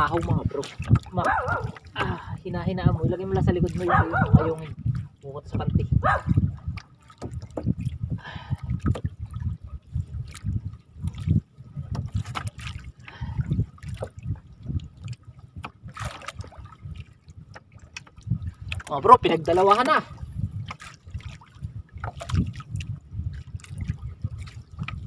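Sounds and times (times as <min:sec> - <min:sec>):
water lapping against boat hull: 0:00.0 - 0:25.0
water splashes: 0:00.0 - 0:25.0.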